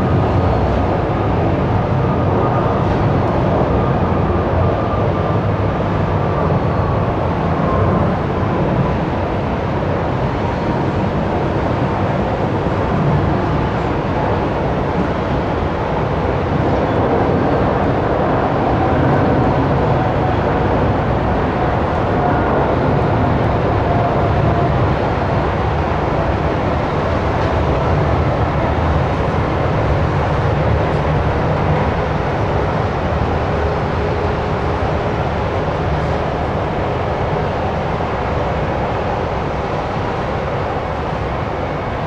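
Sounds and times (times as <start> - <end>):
jet engine rumble: 0.0 - 42.0.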